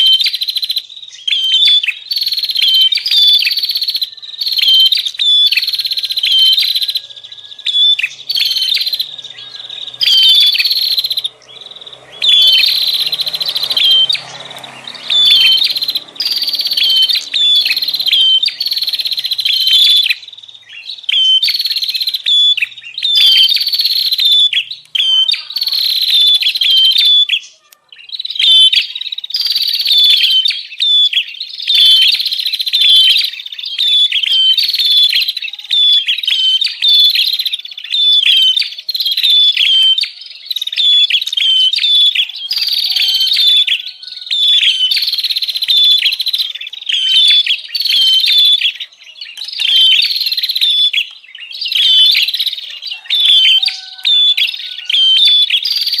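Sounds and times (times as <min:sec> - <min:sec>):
bird calling in fast chattering phrases: 0:00.0 - 0:56.0.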